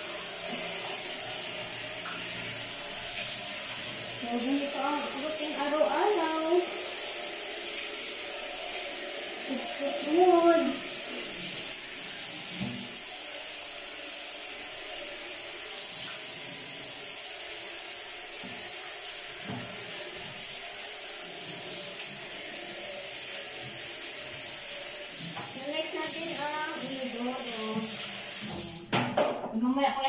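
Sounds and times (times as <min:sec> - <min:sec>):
shower spray into bathtub: 0:00.0 - 0:29.0.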